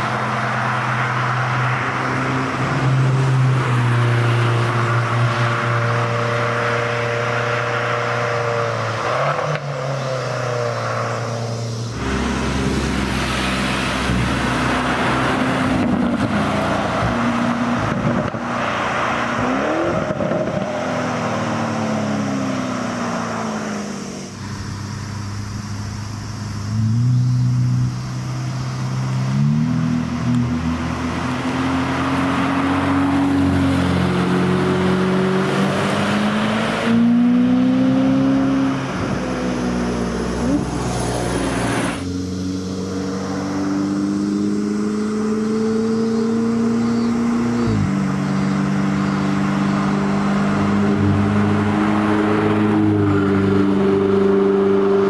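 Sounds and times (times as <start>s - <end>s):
sports cars revving past: 0.0s - 55.0s.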